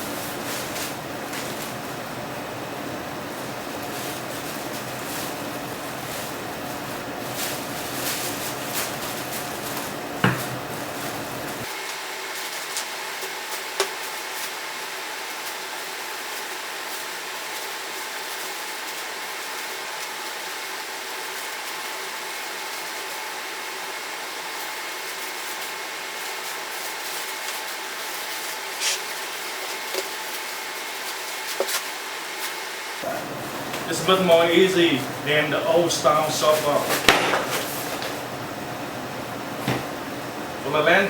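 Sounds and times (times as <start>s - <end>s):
fan-like hiss: 0.0s - 41.0s.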